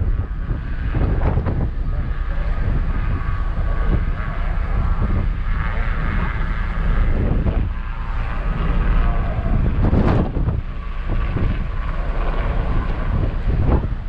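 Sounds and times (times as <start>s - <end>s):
engine drone: 0.0s - 14.0s
wind rumbling on microphone: 0.0s - 14.0s.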